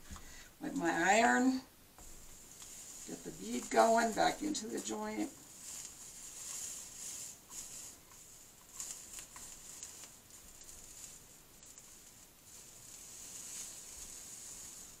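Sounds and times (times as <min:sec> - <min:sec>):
small crackles and pops: 0:00.0 - 0:15.0
solder and flux sizzling: 0:00.0 - 0:15.0.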